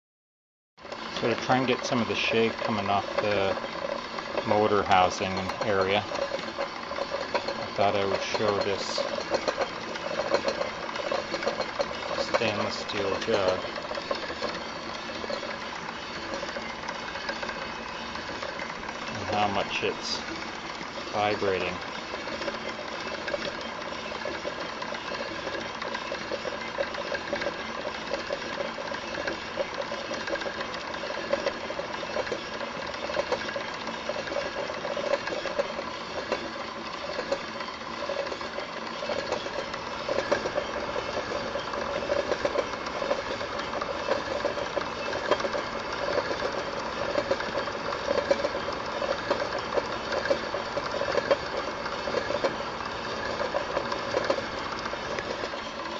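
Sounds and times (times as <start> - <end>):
machine humming and rattling: 0.8 - 55.9
metal jug vibrating: 0.8 - 55.9.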